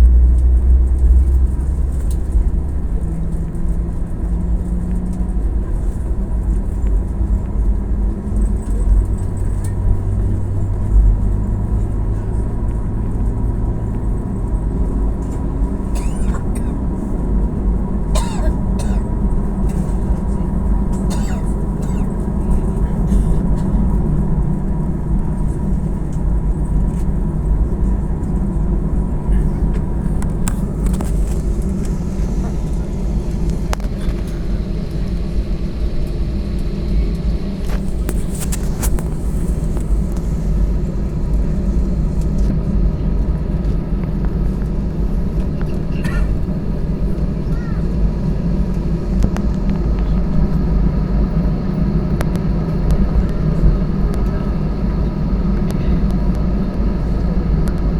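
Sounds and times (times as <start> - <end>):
aircraft engines rumbling: 0.0 - 57.9
constant cabin hum: 0.0 - 57.9.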